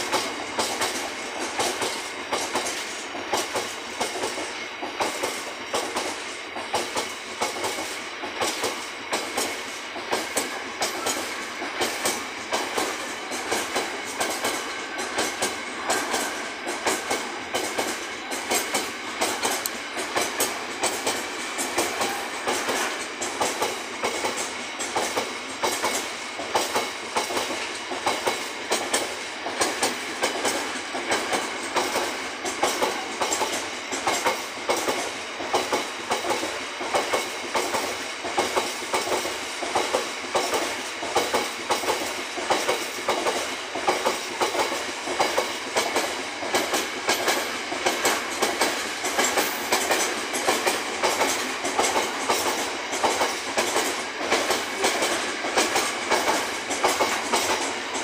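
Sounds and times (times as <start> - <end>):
train wheels clickety-clack: 0.0 - 58.0.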